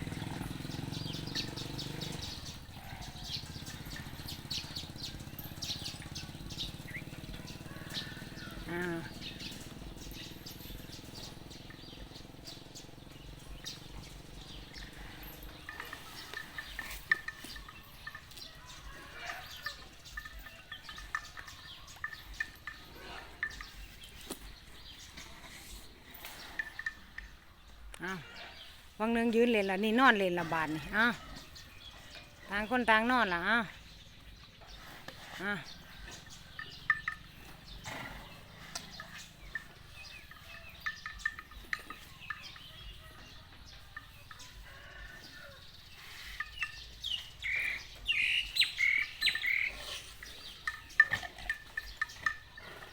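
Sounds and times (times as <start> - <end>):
birds chirping: 0.0 - 52.9
faint outdoor background: 0.0 - 52.9.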